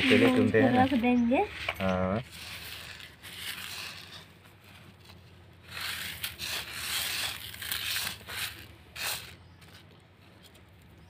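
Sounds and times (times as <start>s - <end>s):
seeds sifted on bamboo tray: 0.0s - 11.0s.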